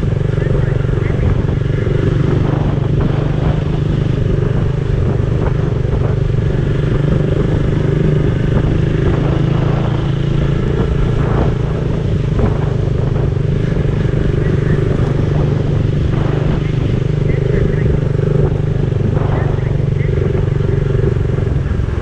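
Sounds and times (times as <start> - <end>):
motor scooter engine running: 0.0 - 22.0
road and tyre noise: 0.0 - 22.0.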